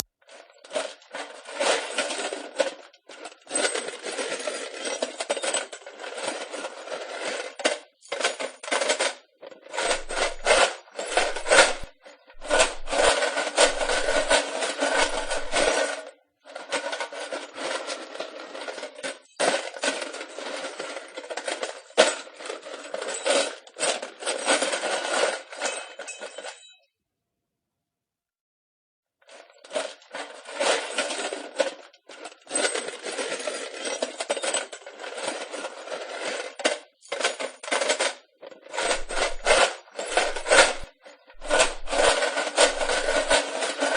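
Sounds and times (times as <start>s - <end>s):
wood pieces clattering and scraping: 0.0s - 26.6s, 29.3s - 43.9s.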